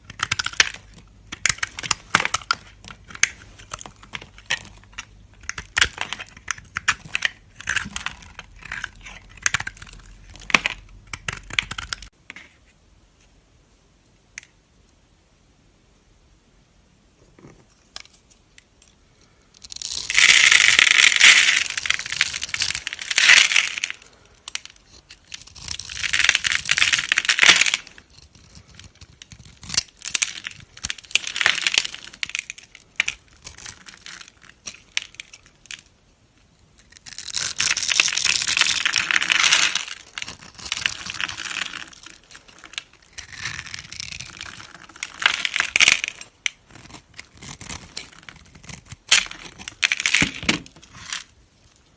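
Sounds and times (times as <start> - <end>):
knife cutting dry soap crackling: 0.0 - 12.1, 19.6 - 35.9, 36.8 - 51.4.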